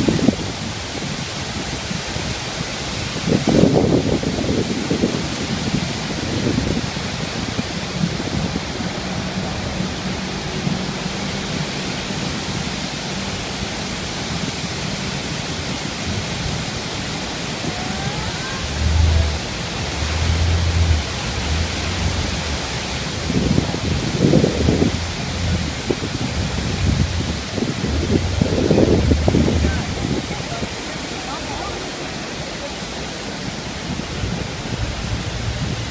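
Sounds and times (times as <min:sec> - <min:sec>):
loud roar of waterfall: 0:00.0 - 0:35.9
low rumbling buffets: 0:00.0 - 0:35.9.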